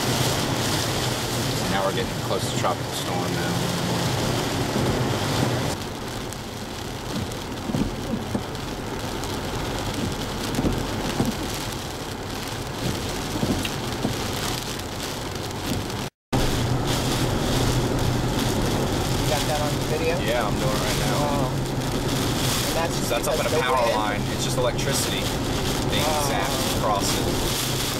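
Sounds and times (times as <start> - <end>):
heavy rain pouring: 0.0 - 27.9
low vehicle hum: 0.0 - 27.9
wind: 0.0 - 27.9.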